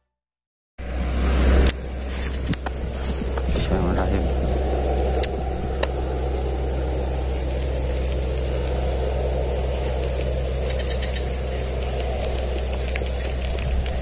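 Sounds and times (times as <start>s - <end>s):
faint high whine: 0.8s - 14.0s
steady low rumble: 0.8s - 14.0s.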